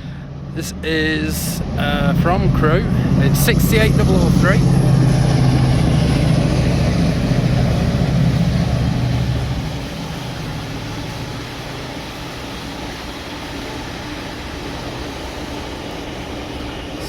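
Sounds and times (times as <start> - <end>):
locomotive engine drone: 0.0 - 17.0
train rolling by: 0.0 - 17.0.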